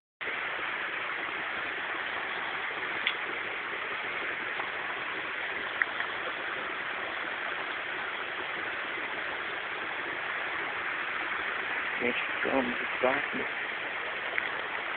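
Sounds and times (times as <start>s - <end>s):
stream water flowing: 0.2s - 14.9s.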